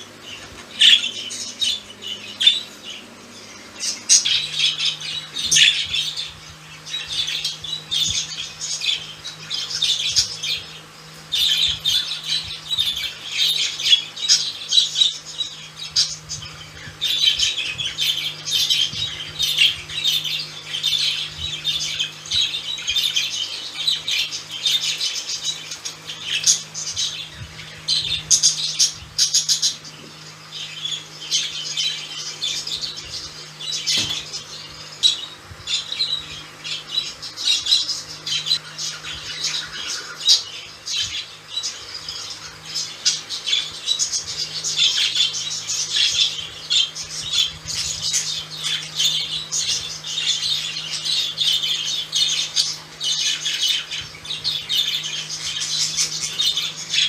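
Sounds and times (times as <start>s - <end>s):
budgerigars chirping and warbling: 0.0s - 57.0s
low steady hum: 0.0s - 57.0s.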